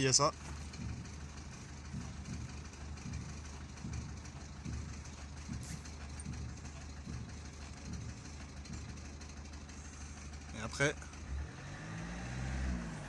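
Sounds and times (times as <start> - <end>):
soft low engine knock: 0.0 - 12.1
car engine humming: 0.0 - 13.0.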